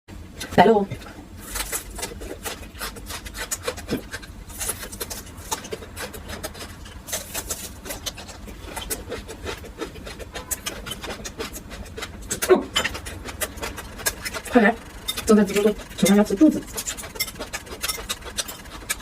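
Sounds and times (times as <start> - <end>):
crunching and chewing: 0.4 - 19.0.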